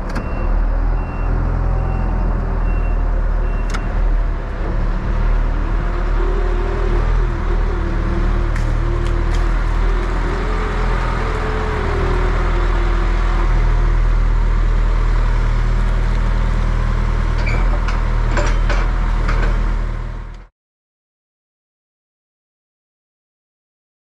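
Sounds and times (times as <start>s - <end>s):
diesel engine running: 0.0s - 20.5s.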